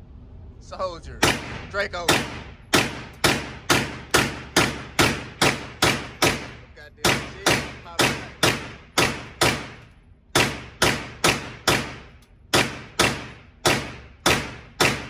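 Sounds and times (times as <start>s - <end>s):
pistol shots echoing indoors: 1.2s - 15.0s.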